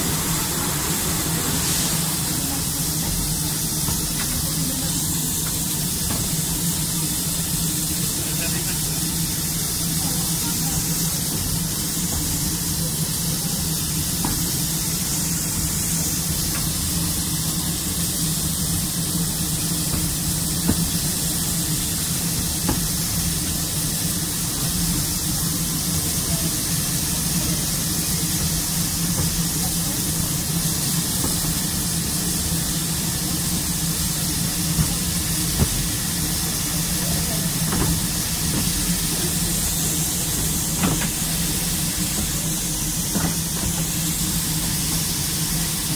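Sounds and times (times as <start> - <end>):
low train rumble: 0.0 - 45.9
steam hissing: 0.0 - 45.9.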